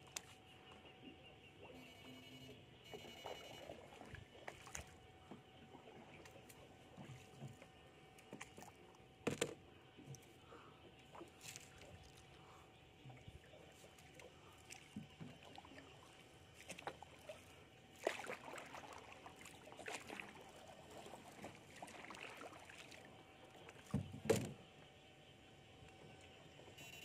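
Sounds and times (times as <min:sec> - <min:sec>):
faint steady hum: 0:00.0 - 0:27.0
water sloshing and splashing: 0:02.8 - 0:24.9.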